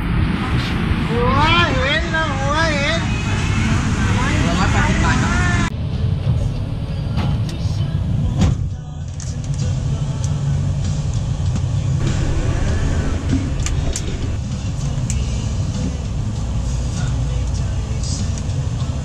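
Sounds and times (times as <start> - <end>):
van engine and tyre rumble: 0.0 - 19.0.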